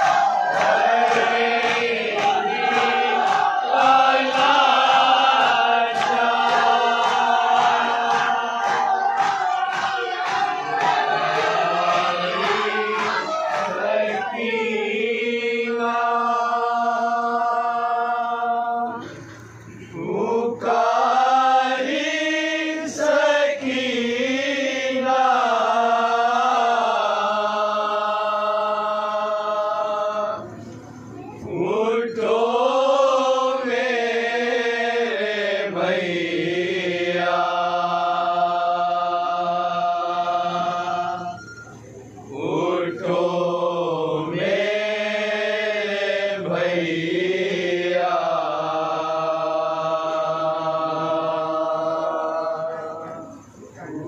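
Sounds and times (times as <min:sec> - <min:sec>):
group chanting a lament in chorus: 0:00.0 - 0:54.0.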